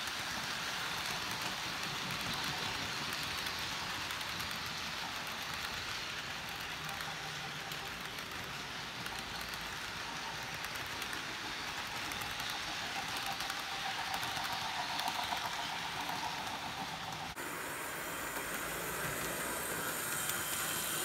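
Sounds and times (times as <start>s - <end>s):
model train wheels rolling: 0.0s - 21.0s.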